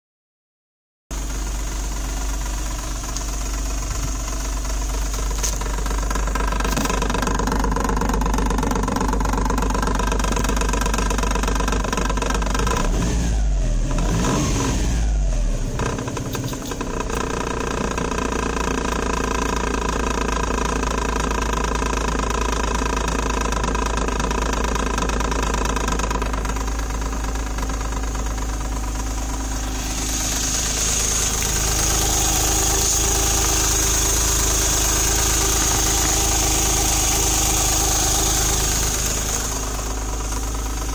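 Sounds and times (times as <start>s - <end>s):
car engine running: 1.1s - 40.9s.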